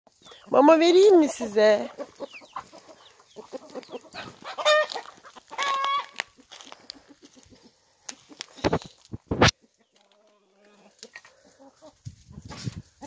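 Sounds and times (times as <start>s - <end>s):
chickens clucking: 0.1s - 13.0s
chicken drawn-out calls: 1.1s - 13.0s.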